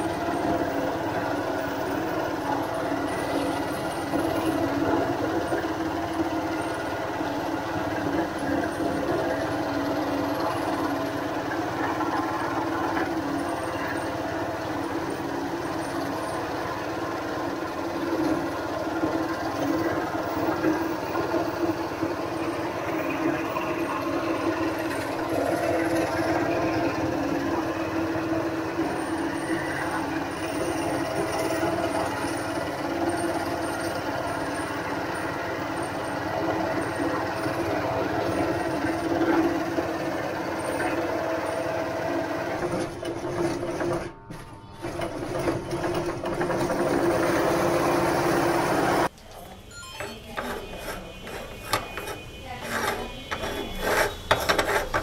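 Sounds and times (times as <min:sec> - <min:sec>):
meat grinder running: 0:00.0 - 0:49.1, 0:50.3 - 0:55.0.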